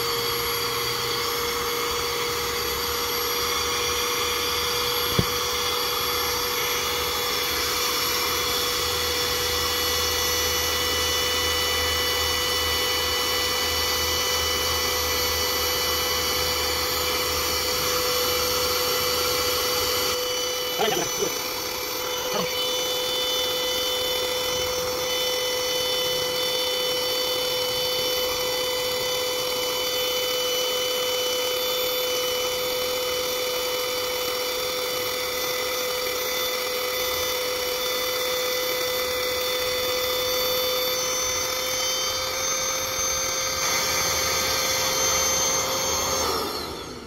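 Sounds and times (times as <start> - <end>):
air mattress pump motor humming: 0.0 - 47.0.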